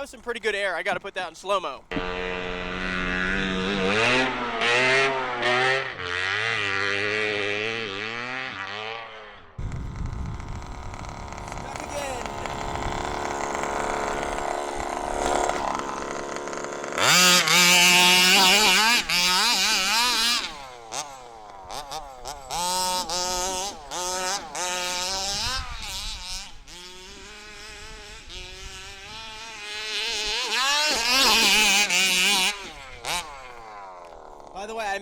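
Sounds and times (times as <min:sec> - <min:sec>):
two-stroke engine revving: 0:01.8 - 0:35.0.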